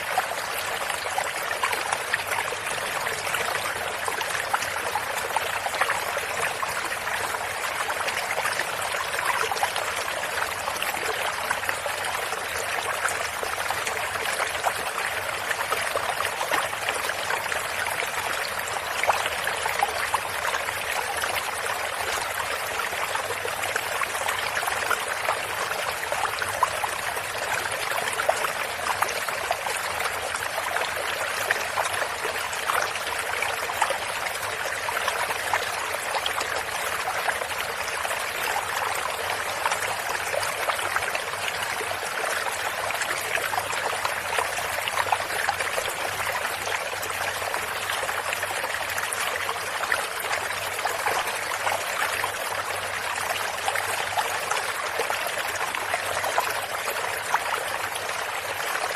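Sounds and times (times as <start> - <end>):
stream trickling and splashing: 0.0 - 58.9.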